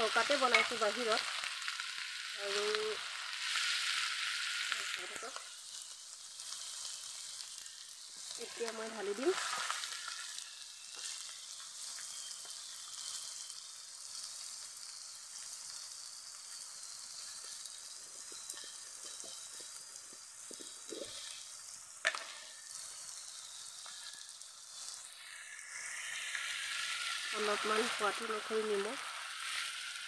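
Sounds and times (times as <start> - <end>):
food sizzling in a wok: 0.0 - 30.0
steel spoon scraping a pan: 0.1 - 30.0.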